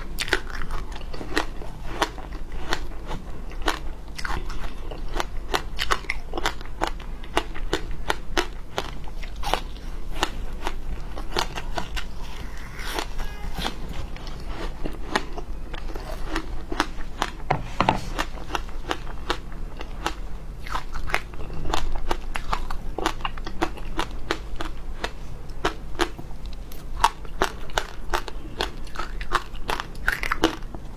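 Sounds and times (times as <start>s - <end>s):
ice crunching while chewed: 0.0s - 17.5s, 18.2s - 30.8s.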